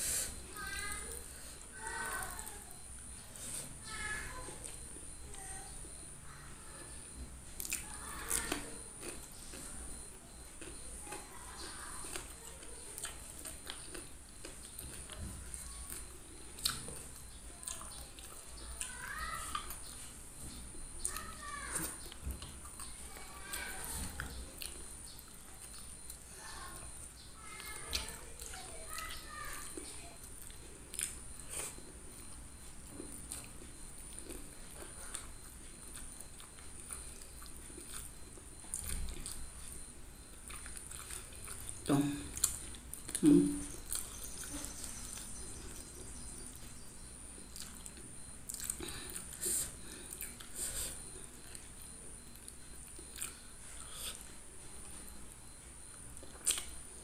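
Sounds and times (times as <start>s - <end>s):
chewing and lip-smacking: 7.1s - 57.0s.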